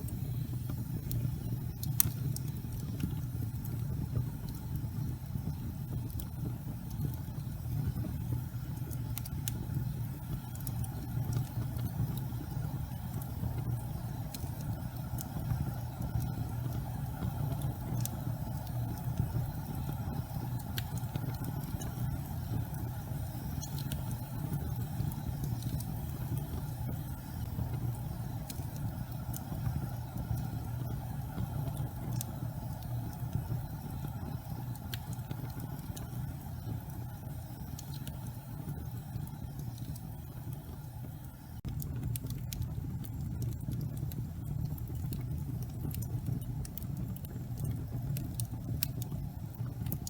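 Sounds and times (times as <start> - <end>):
gas fireplace flames rumbling: 0.0 - 50.0
light crackles of fire: 0.0 - 50.0.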